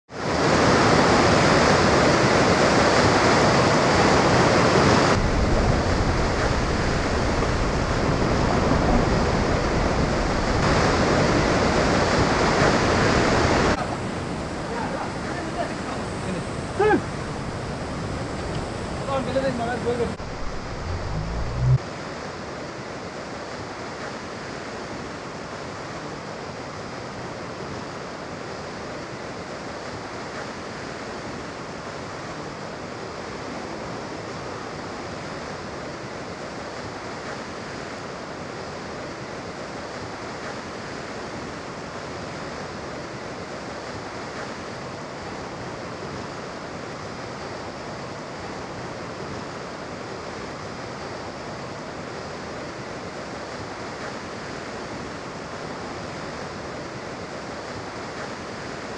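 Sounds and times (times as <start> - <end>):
water rushing: 0.2 - 58.9.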